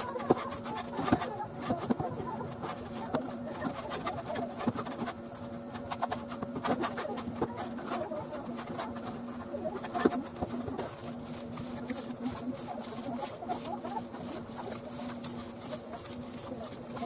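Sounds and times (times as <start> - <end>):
fingers scraping metal bowl: 0.0 - 17.0
hands kneading sticky dough: 0.0 - 17.0
steady low hum: 0.0 - 17.0.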